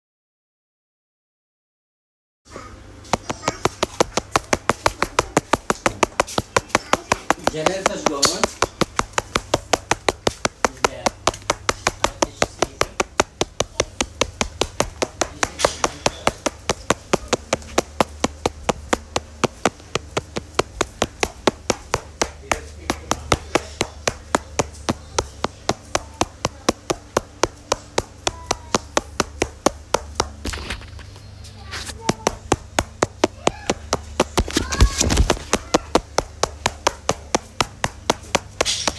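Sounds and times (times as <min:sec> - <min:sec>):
low steady hum: 0:02.5 - 0:38.9
rapid even clicking: 0:03.1 - 0:31.3, 0:31.9 - 0:38.9.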